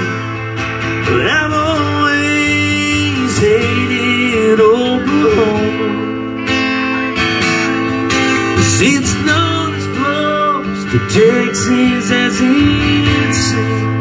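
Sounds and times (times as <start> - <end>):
man singing: 0.0 - 6.4, 8.4 - 14.0
acoustic guitar strumming: 0.0 - 14.0.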